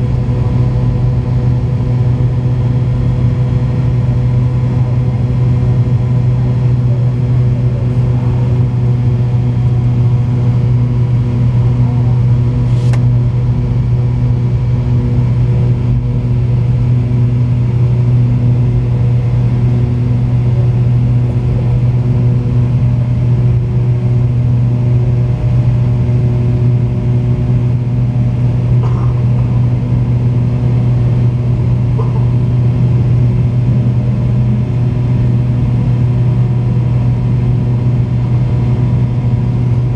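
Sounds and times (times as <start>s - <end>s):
constant engine tones: 0.0s - 39.9s
jet engines droning: 0.0s - 39.9s.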